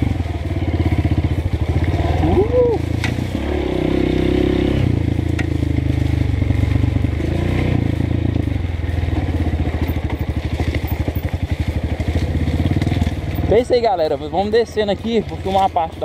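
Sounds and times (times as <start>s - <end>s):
motorbike engine revving: 0.0s - 16.0s.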